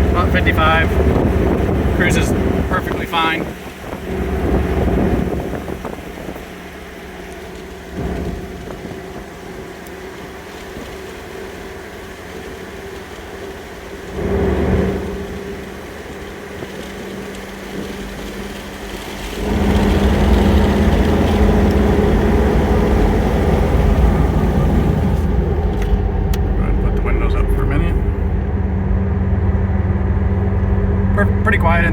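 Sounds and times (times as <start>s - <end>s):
diesel engine drone: 0.0s - 31.9s.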